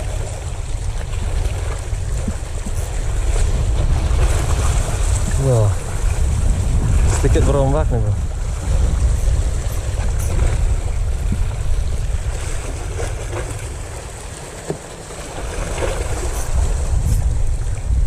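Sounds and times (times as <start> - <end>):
wind buffeting the microphone: 0.0 - 14.4, 15.2 - 18.0
choppy sea wash: 0.0 - 18.0.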